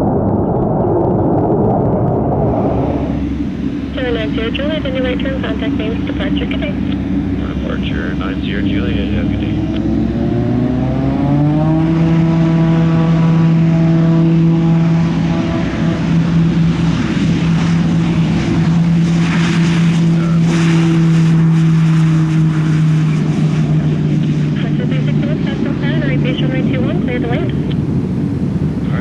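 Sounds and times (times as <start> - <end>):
turboprop plane taking off: 0.0 - 29.0.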